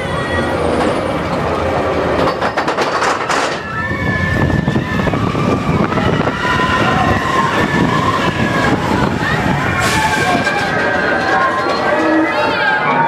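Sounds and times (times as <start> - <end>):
roller coaster rattling on track: 0.0 - 13.0.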